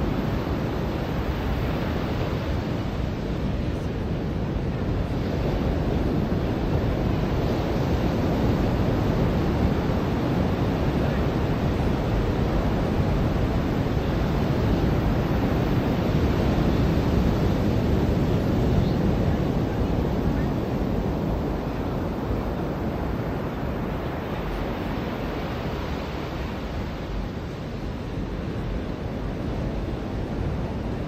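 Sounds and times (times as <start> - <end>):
ocean surf washing onto beach: 0.0 - 31.0.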